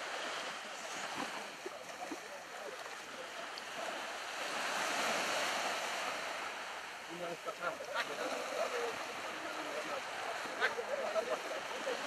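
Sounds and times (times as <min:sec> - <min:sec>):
gentle surf: 0:00.0 - 0:12.0
people wading through water: 0:00.0 - 0:12.0.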